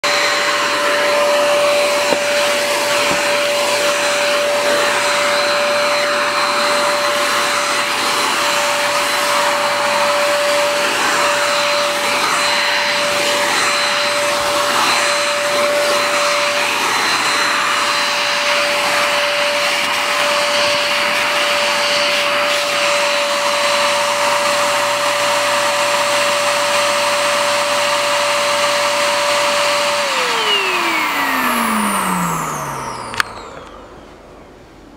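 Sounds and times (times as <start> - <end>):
handheld vacuum cleaner running: 0.0 - 34.9.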